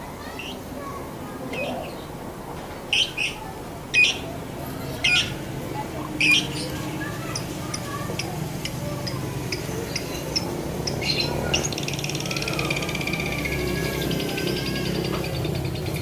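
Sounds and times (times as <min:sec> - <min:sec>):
birds chattering trill: 0:00.0 - 0:16.0
birds chirping: 0:00.0 - 0:16.0
lovebirds squawking: 0:02.9 - 0:16.0.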